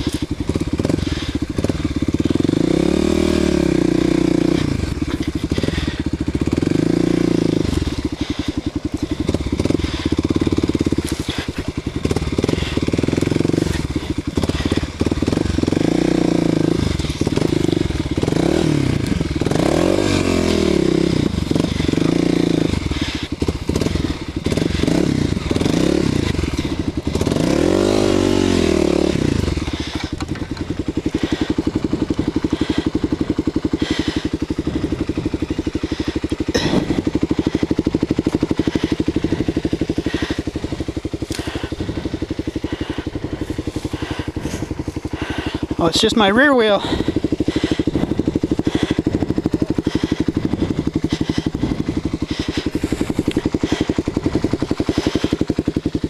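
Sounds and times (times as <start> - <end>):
branches scraping against bike: 0.0 - 2.4, 3.0 - 18.3, 20.2 - 56.0
motorcycle engine revving: 0.0 - 56.0.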